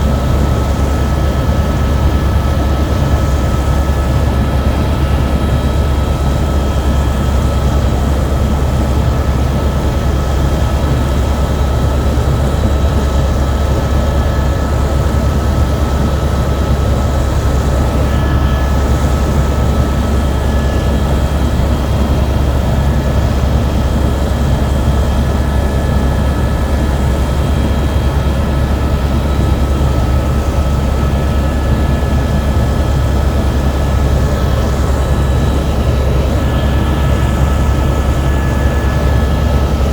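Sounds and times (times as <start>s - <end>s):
helicopter rotor and engine drone: 0.0s - 39.9s
thin steady whining tones: 0.0s - 39.9s.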